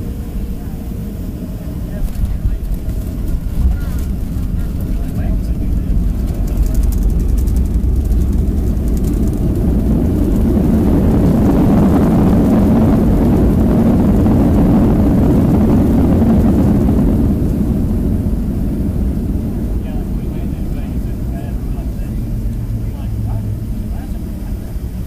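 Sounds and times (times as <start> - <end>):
deep rumble of landing rollout: 0.0 - 25.0
jet engines reverse thrust roar: 0.0 - 25.0.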